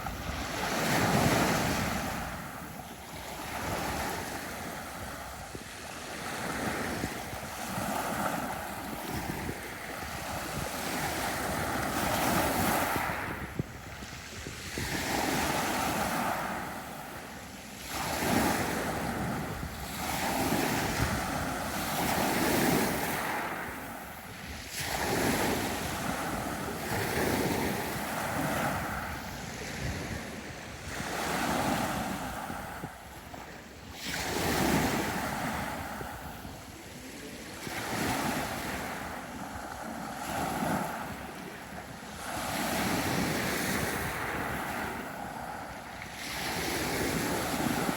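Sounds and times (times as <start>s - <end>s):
sea waves breaking on beach: 0.0s - 47.9s.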